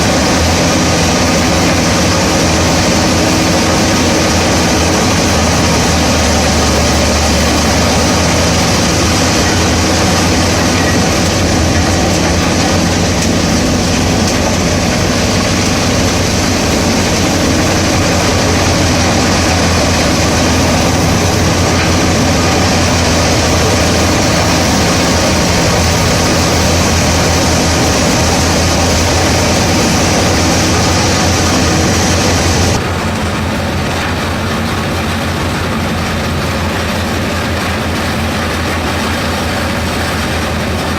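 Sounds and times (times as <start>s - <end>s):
diesel engine running: 0.0s - 40.9s
wood chipper running: 0.0s - 40.9s.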